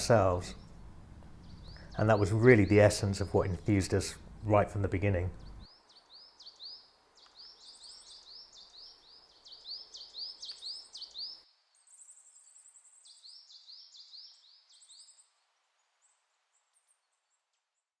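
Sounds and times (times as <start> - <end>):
small birds chirping and trilling: 0.0 - 17.8.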